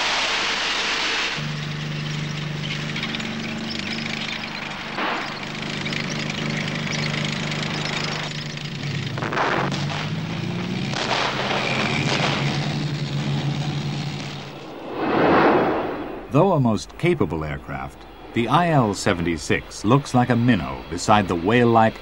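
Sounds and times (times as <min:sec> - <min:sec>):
sharp bangs: 0:00.0 - 0:19.3
vehicle engine droning: 0:01.4 - 0:14.9, 0:16.0 - 0:22.0.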